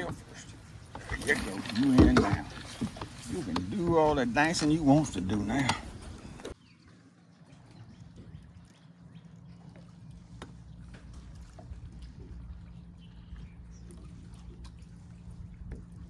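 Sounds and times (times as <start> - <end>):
steady low hum: 0.0 - 16.0
water trickling and splashing: 0.0 - 16.0.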